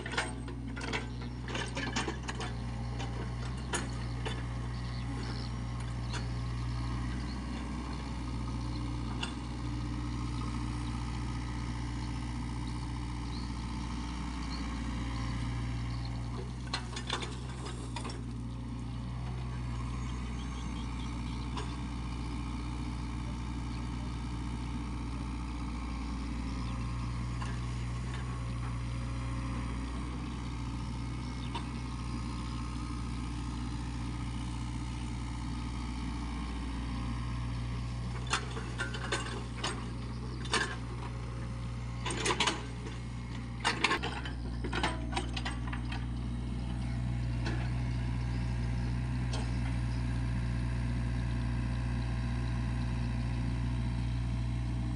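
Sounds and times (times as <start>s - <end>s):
excavator diesel engine: 0.0s - 54.9s.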